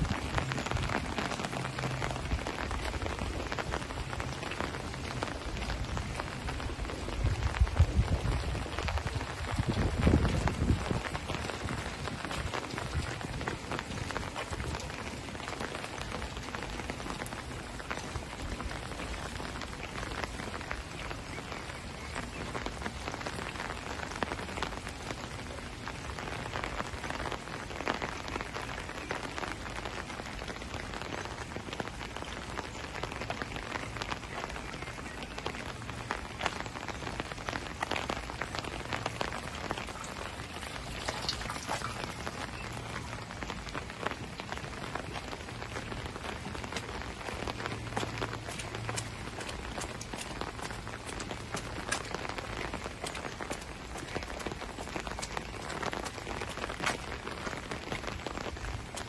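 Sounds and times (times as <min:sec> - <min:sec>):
rain on pavement and foliage: 0:00.0 - 0:59.0.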